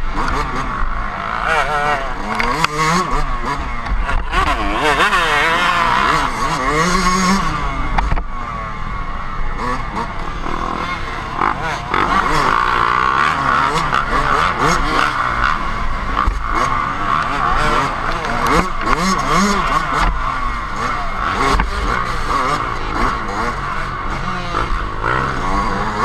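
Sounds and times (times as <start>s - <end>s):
dirt bike engine revving: 0.0s - 26.0s
other dirt bikes: 0.0s - 26.0s.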